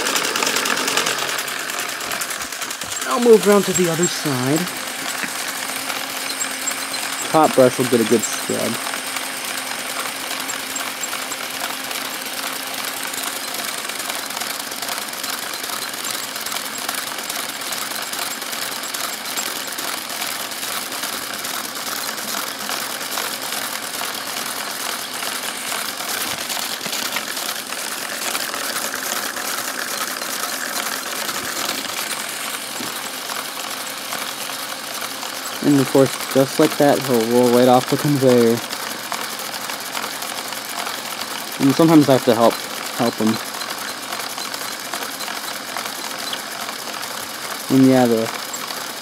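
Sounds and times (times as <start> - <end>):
plastic gears rattling: 0.0 - 49.0
small electric motors running: 0.0 - 49.0.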